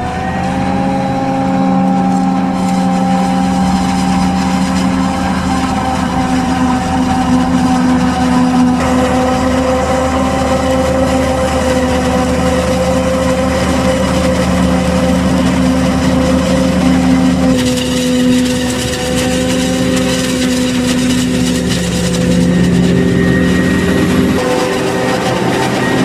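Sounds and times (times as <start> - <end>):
forage harvester chopping: 0.0 - 26.0.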